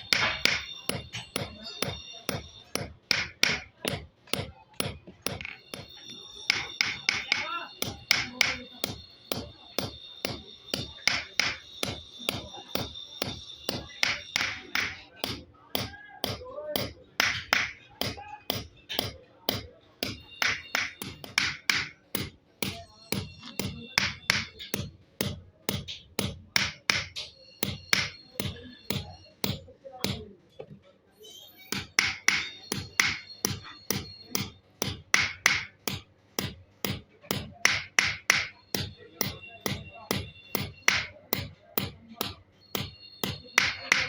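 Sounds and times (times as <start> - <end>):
hammer striking steel: 0.0 - 44.0.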